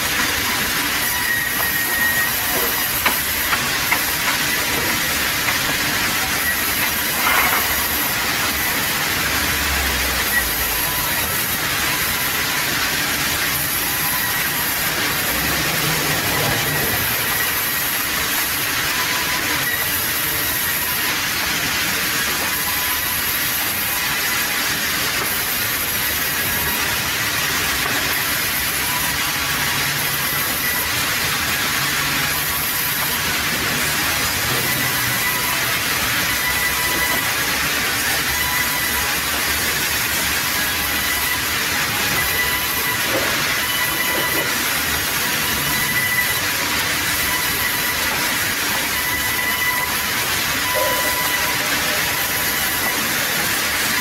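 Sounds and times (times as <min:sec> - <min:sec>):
band saw cutting log: 0:00.0 - 0:27.0, 0:27.7 - 0:54.0.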